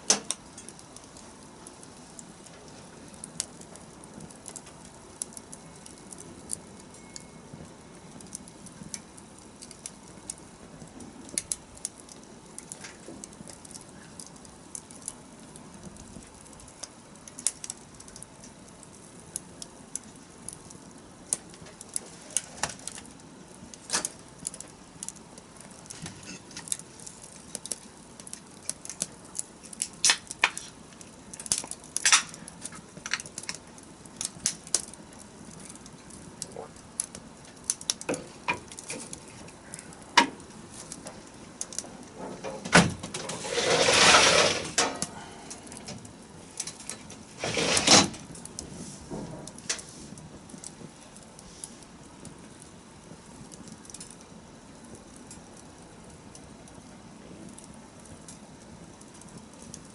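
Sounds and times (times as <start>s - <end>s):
low hiss of burning: 0.0s - 59.9s
wood fire crackling: 0.0s - 59.9s.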